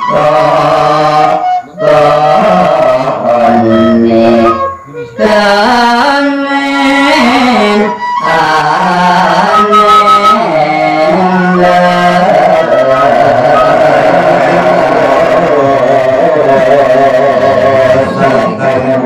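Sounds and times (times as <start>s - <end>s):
bamboo flute: 0.0s - 19.0s
man singing into a microphone: 0.0s - 19.0s.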